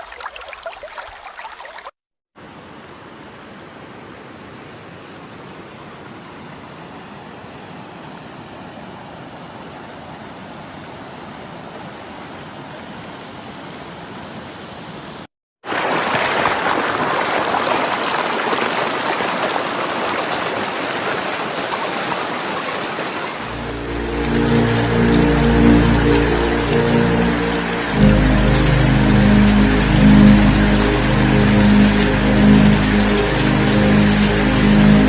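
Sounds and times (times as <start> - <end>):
rushing stream: 0.0 - 35.0.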